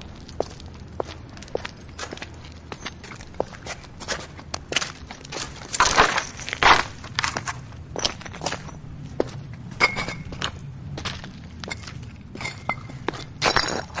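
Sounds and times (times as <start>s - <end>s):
footsteps crunching over rubble: 0.0s - 14.0s.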